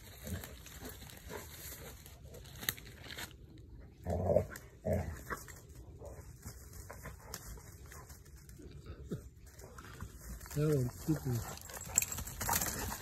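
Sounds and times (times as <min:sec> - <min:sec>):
dry leaves and twigs crackling: 0:00.0 - 0:13.0.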